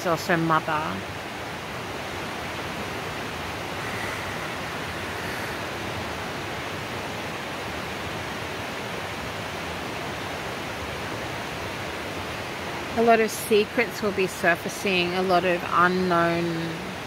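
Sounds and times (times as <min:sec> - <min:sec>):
small waterfall rushing: 0:00.0 - 0:17.0.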